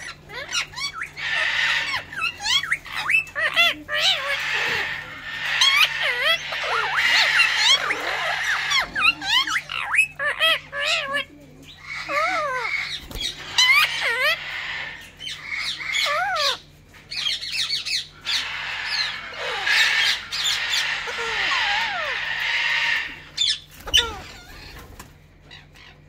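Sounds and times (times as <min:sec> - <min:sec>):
parakeets raspy screeching: 0:00.0 - 0:26.0
parakeets squawking: 0:00.0 - 0:26.0.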